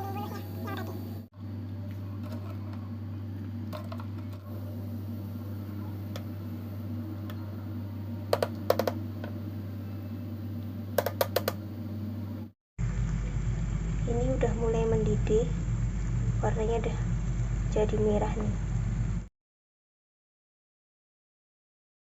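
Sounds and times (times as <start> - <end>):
low hum: 0.0 - 19.3.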